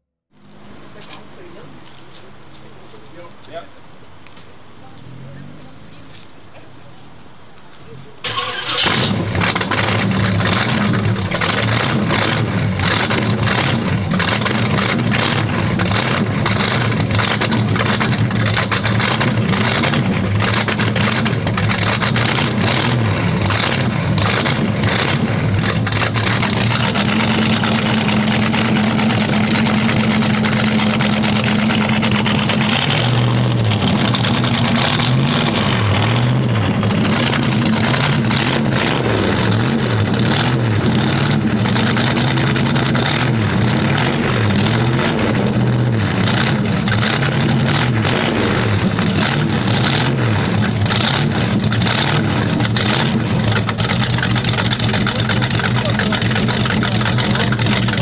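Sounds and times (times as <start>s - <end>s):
car engine idling: 8.2s - 58.0s.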